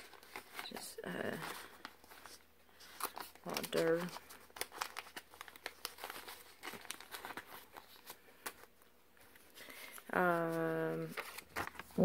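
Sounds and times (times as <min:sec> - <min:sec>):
paper banknotes rustling: 0:00.0 - 0:12.0.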